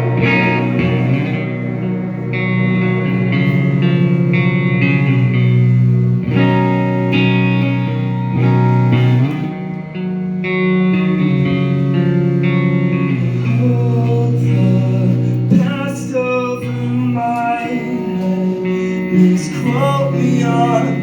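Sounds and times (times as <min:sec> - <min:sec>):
bending guitar melody: 0:00.0 - 0:21.0
live rock band playing: 0:00.0 - 0:21.0.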